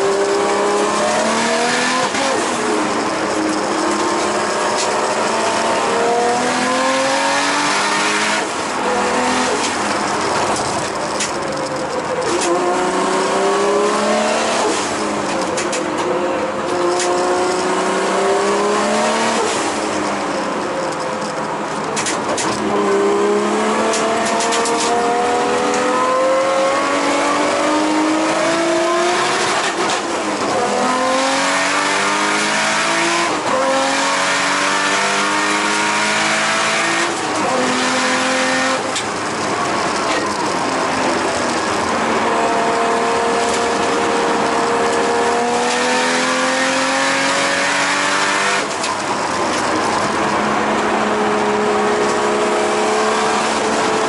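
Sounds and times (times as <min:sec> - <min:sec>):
car engine accelerating hard: 0:00.0 - 0:54.0.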